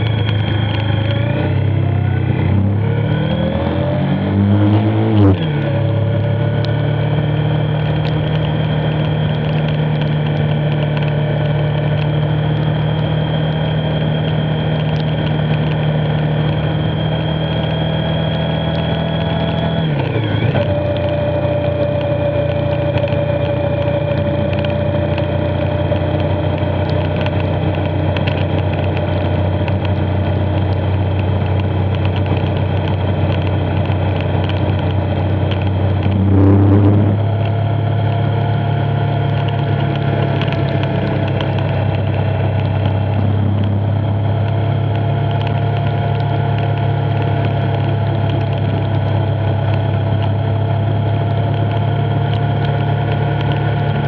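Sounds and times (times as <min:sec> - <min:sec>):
motorcycle engine revving: 0:00.0 - 0:54.0
steady rushing noise: 0:00.0 - 0:54.0.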